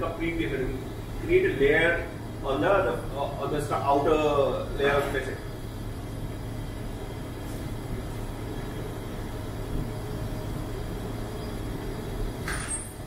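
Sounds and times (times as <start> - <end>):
kitchen ventilation rushing: 0.0 - 13.0
low hum: 0.0 - 13.0.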